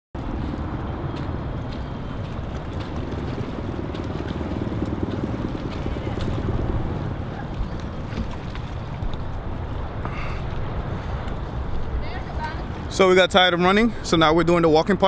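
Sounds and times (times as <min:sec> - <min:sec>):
wind buffeting microphone: 0:00.2 - 0:15.0.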